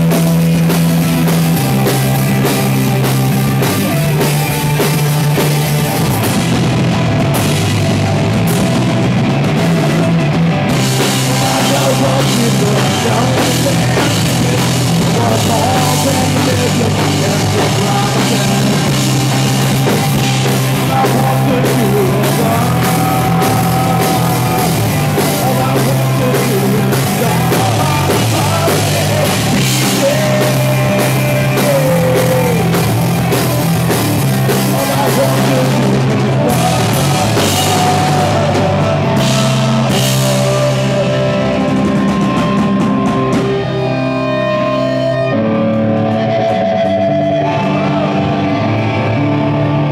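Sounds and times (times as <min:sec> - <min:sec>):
bass guitar: 0:00.0 - 0:49.9
drum kit: 0:00.0 - 0:49.9
electric guitars: 0:00.0 - 0:49.9.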